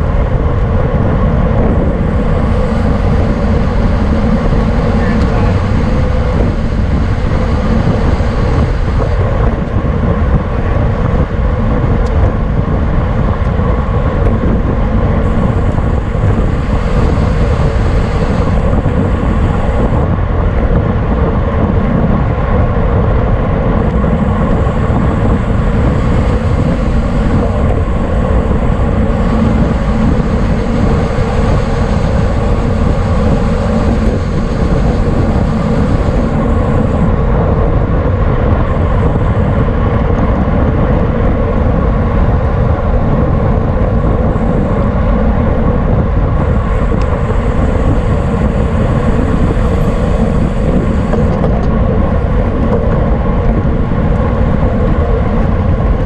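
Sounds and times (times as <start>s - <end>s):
road rumble: 0.0s - 56.0s
wind rush on microphone: 0.0s - 56.0s
faint steady hum: 0.8s - 12.7s, 13.5s - 20.2s, 23.5s - 37.4s, 38.4s - 56.0s.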